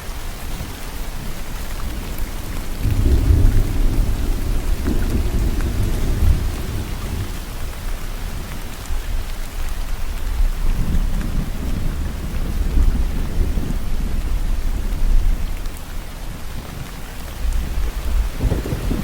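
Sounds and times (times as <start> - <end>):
steady rain falling: 0.0 - 19.0
low rumble of thunder: 0.6 - 19.0.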